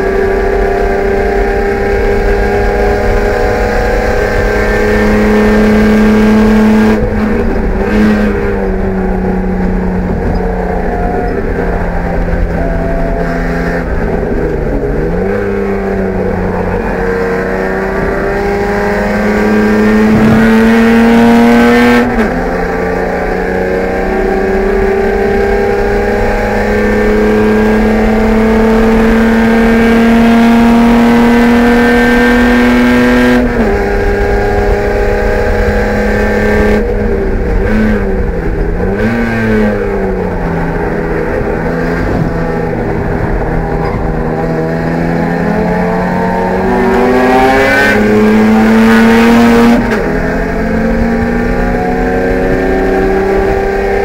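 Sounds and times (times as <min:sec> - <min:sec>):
race car engine under load: 0:00.0 - 0:54.0.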